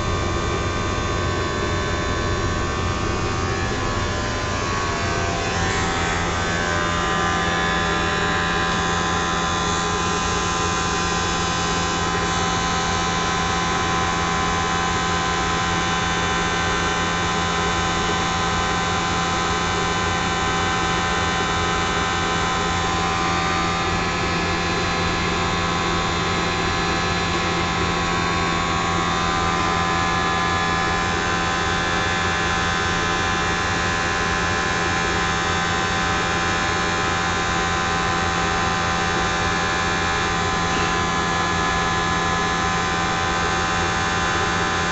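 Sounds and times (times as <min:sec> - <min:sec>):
blower motor humming and whining: 0:00.0 - 0:44.9.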